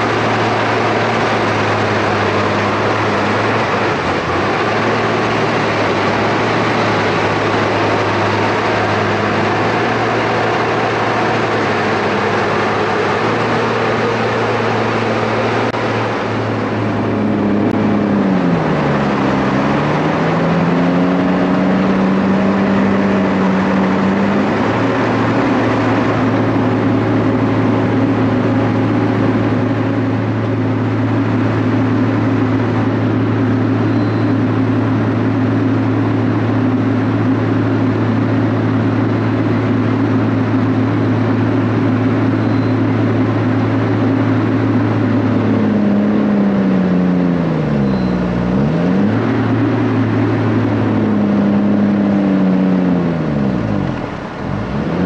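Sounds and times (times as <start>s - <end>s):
heavy diesel engines under load: 0.0s - 55.0s.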